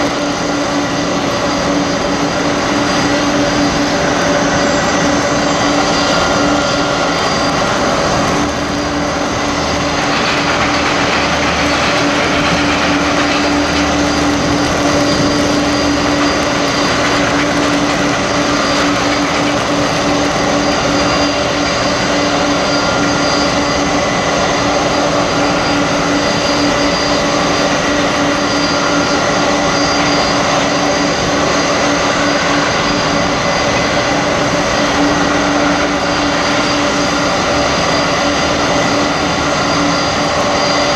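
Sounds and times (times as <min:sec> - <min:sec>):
jet engines idling: 0:00.0 - 0:40.9.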